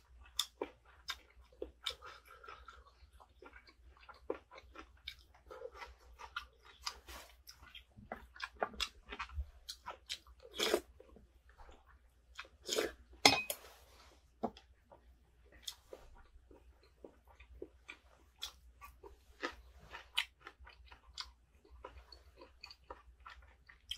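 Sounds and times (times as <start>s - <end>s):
chewing and crunching: 0.0s - 13.2s, 14.6s - 23.9s.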